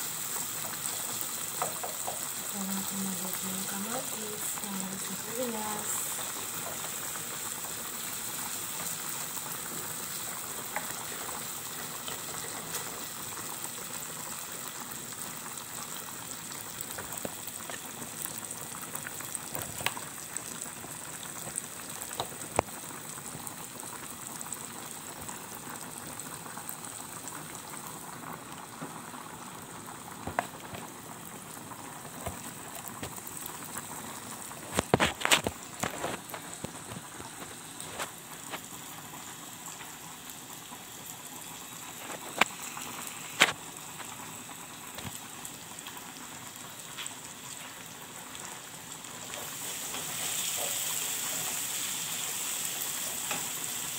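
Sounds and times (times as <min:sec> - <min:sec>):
pot boiling: 0:00.0 - 0:53.9.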